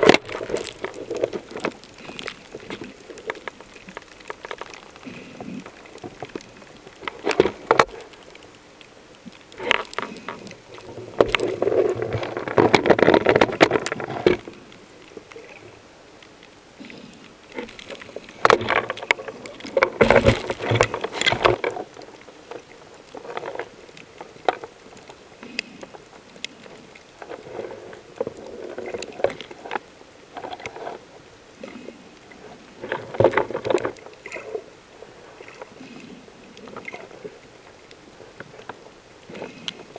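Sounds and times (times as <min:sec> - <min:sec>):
underwater gurgling and bubbling: 0:00.0 - 0:16.1, 0:16.7 - 0:39.9.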